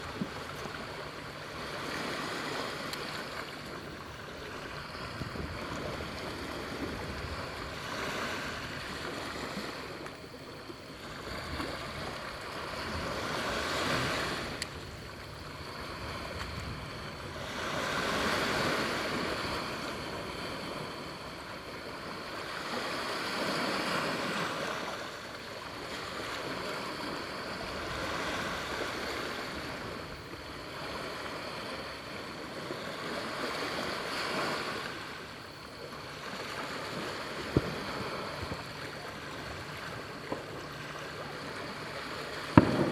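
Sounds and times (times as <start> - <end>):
waves breaking on a shore: 0.0 - 42.9.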